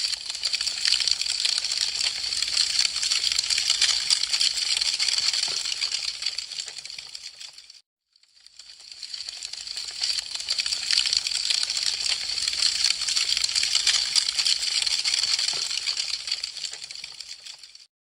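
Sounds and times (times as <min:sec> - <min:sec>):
burning wood crackling and popping: 0:00.0 - 0:07.8, 0:08.5 - 0:17.9.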